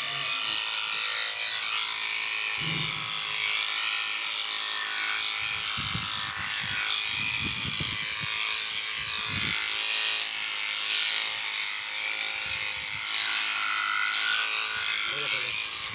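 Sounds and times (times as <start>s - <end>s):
electric shearing clipper whine: 0.0s - 15.9s.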